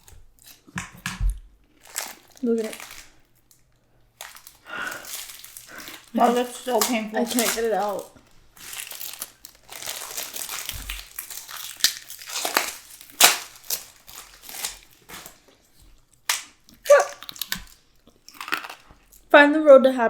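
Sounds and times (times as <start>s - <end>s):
plastic wrapper crinkling and tearing: 0.0s - 1.0s, 1.7s - 19.3s.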